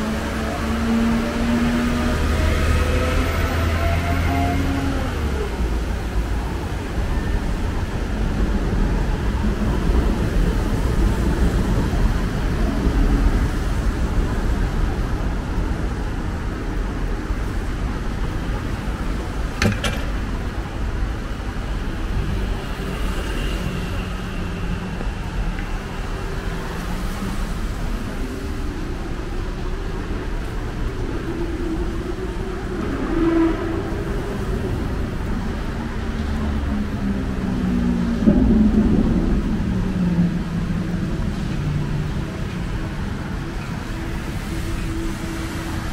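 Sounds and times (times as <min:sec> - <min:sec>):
traffic rush and rumble: 0:00.0 - 0:45.9.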